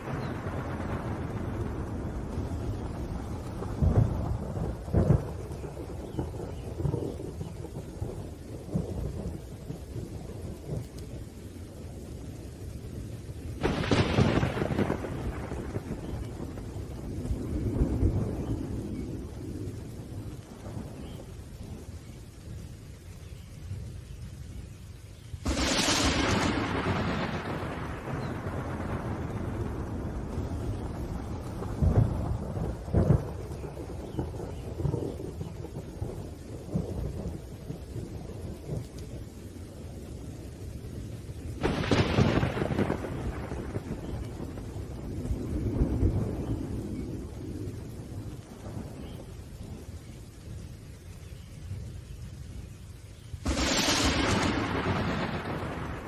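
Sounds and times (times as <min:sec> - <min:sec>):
thunder claps and rumble: 0:00.0 - 0:24.7, 0:25.3 - 0:56.0
steady rain: 0:00.0 - 0:56.0.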